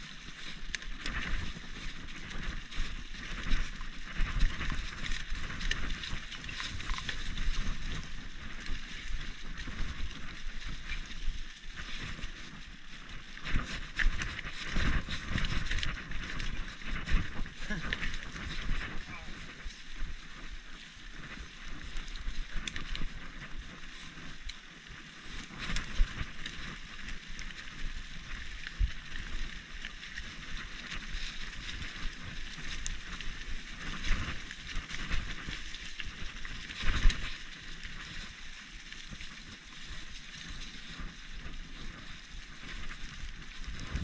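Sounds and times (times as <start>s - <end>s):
bike rattling and knocking: 0.0s - 24.5s, 25.2s - 38.3s
bike tyres rolling on wet dirt: 0.0s - 44.0s.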